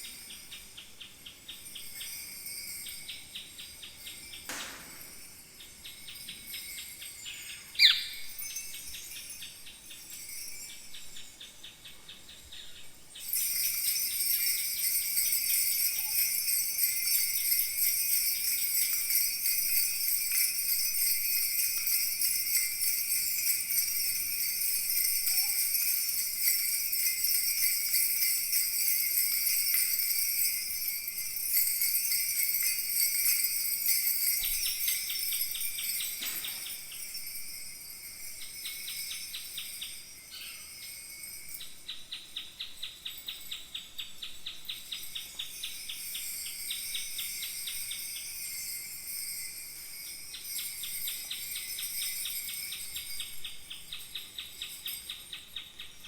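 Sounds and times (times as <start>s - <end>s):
bronze bells jingling: 0.0s - 56.0s.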